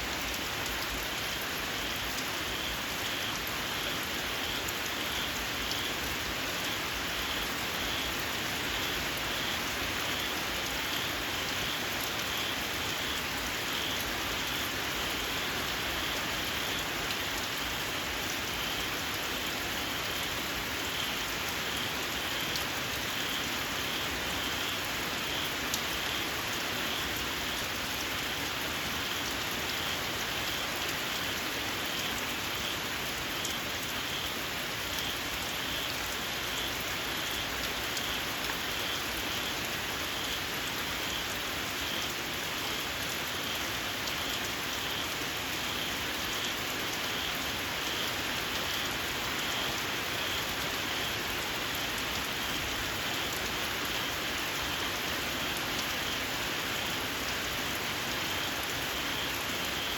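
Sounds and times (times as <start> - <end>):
rain falling on ground: 0.0 - 59.9.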